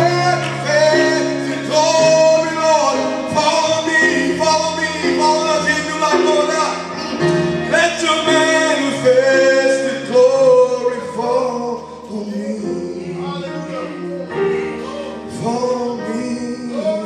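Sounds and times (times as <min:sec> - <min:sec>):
electronic keyboard: 0:00.0 - 0:17.0
man singing gospel song: 0:00.0 - 0:17.0.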